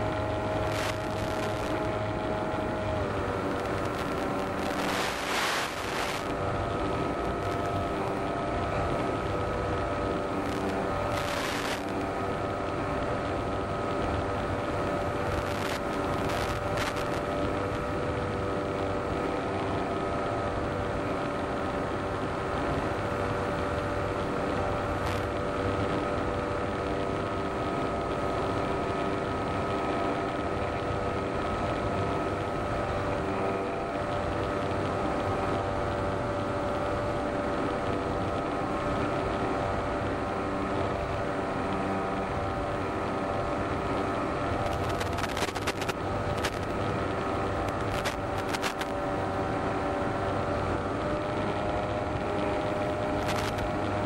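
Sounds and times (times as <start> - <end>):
electric motor and propeller whine: 0.0 - 54.0.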